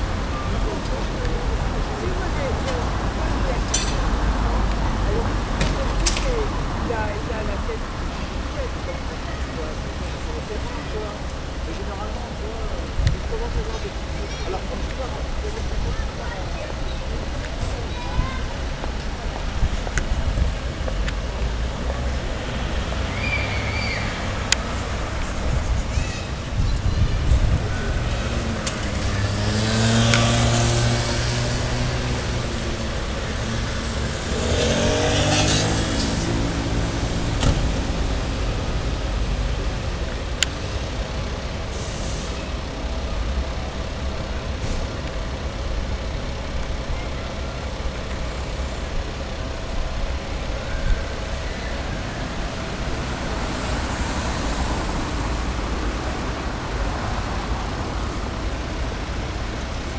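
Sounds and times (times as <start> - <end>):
low rumble of engines: 0.0 - 59.9
vehicles driving past: 0.0 - 59.9.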